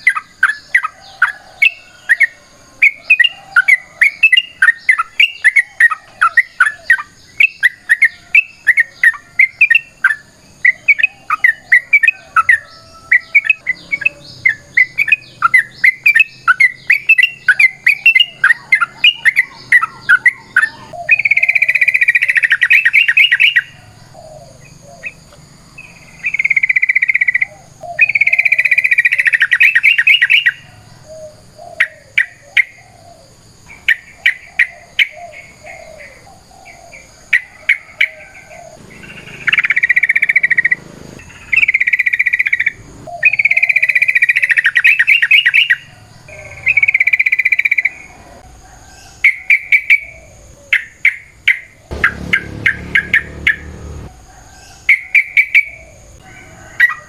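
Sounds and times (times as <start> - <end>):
bird singing with rattling trills: 0.0 - 57.0.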